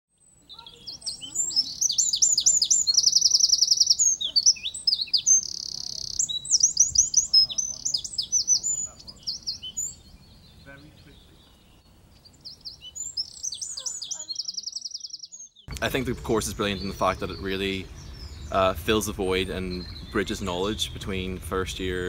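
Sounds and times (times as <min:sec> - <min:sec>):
songbird singing: 0:00.1 - 0:22.0.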